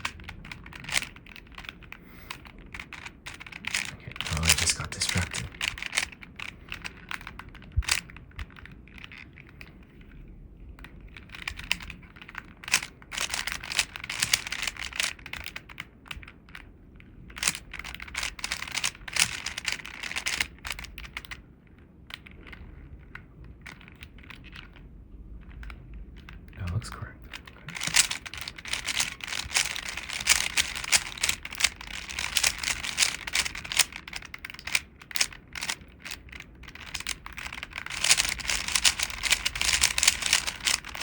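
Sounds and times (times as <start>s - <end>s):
plastic puzzle cube clicking: 0.0s - 10.2s, 10.8s - 24.8s, 25.4s - 26.6s, 27.3s - 41.0s.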